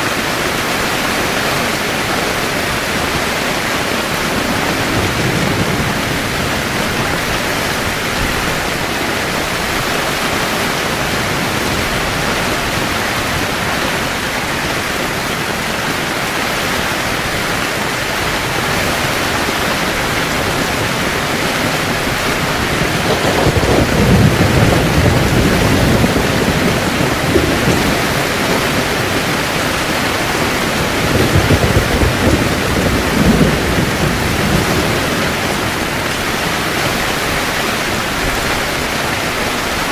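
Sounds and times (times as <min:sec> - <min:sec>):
heavy rain on a tent: 0:00.0 - 0:39.9
thunder rumbling: 0:00.2 - 0:39.9.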